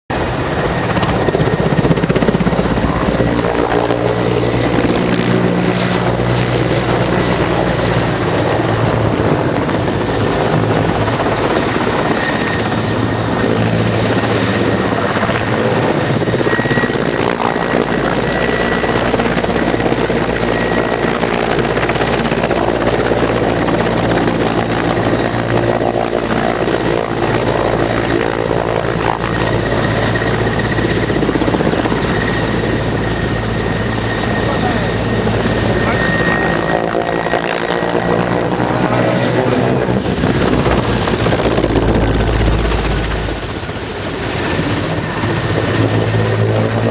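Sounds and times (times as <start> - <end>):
steady high whine: 0.1 - 46.8
helicopter rotor beating: 0.1 - 46.9
turboshaft engines running: 0.1 - 46.9.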